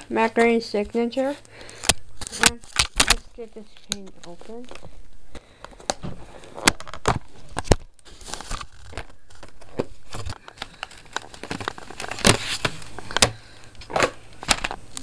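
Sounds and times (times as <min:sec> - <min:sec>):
packaging crinkling and rustling: 0:01.3 - 0:15.0.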